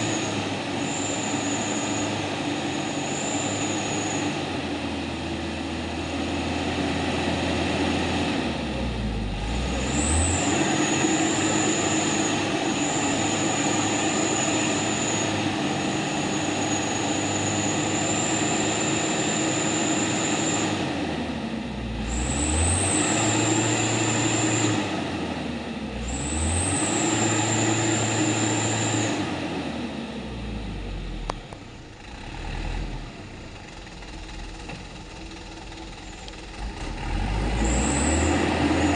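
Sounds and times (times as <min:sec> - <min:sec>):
truck engine revving: 0:00.0 - 0:31.4, 0:32.0 - 0:38.9.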